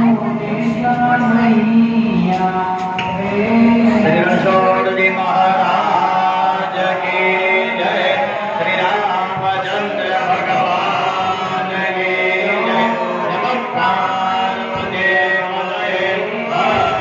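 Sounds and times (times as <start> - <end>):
group of voices chanting: 0.0 - 17.0.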